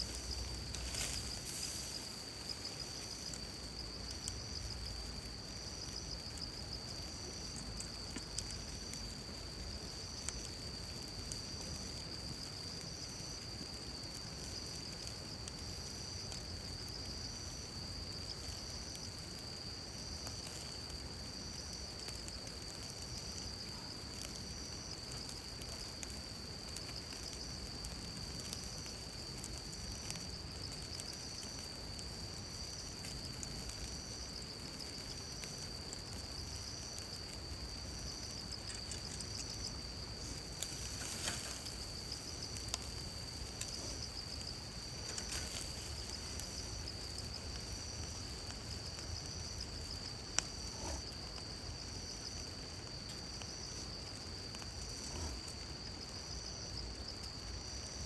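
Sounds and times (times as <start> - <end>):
higher pulsing insect call: 0.0 - 58.0
insects trilling: 0.0 - 58.0.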